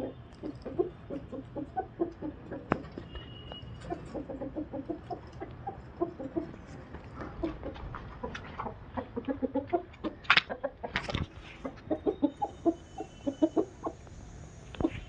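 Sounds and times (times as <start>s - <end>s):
chickens clucking: 0.0s - 14.1s, 14.7s - 15.0s.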